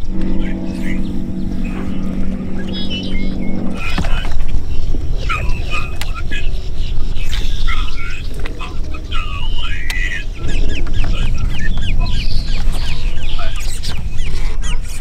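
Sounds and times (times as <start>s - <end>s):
steady low rumble: 0.0s - 15.0s
wild birds calling: 0.0s - 15.0s.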